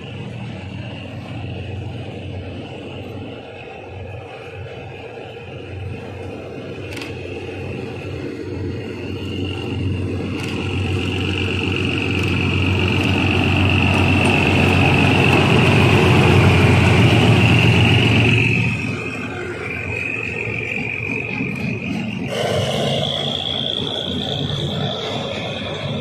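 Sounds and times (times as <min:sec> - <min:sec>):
diesel locomotive engine: 0:00.0 - 0:26.0
freight wagons rolling: 0:00.0 - 0:26.0.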